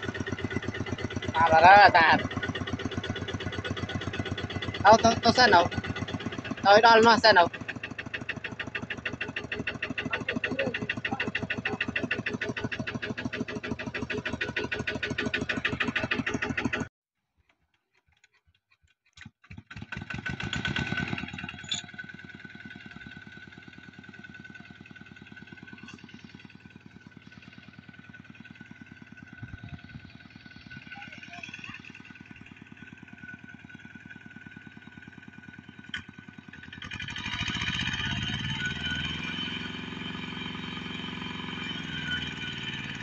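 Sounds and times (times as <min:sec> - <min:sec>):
diesel engine chugging: 0:00.0 - 0:16.9, 0:19.5 - 0:43.0
tractor engine chugging with whine: 0:00.0 - 0:16.9, 0:19.2 - 0:43.0.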